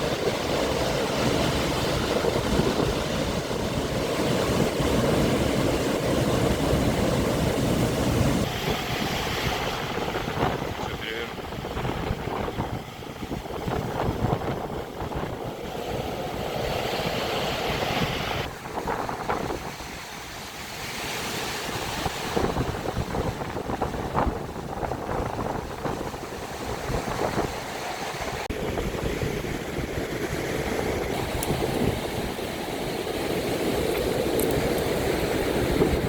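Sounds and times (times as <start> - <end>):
surf breaking and washing in: 0.0 - 36.0
wind buffeting microphone: 0.0 - 36.0.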